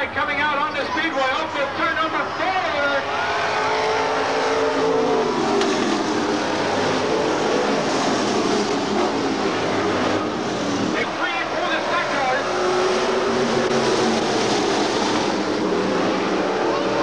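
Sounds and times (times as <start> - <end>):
stock car engines racing: 0.0 - 17.0
engine passing by: 3.1 - 17.0.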